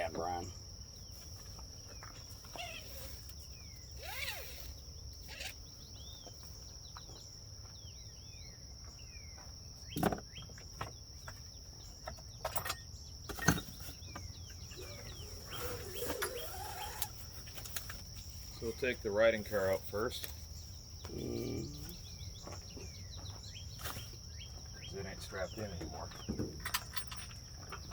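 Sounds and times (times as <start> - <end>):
birds chirping: 0.0 - 27.9
crickets droning: 0.0 - 27.9.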